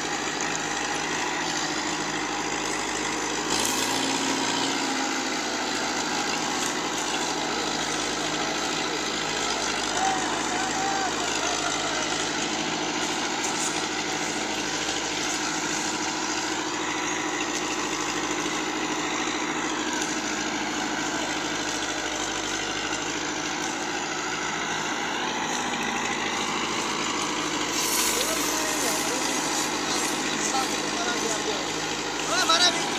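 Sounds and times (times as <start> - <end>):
tractor diesel engine under load: 0.0 - 32.9.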